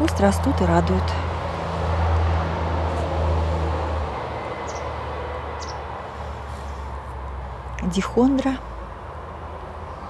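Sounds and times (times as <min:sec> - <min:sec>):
low steady outdoor rumble: 0:00.0 - 0:10.0.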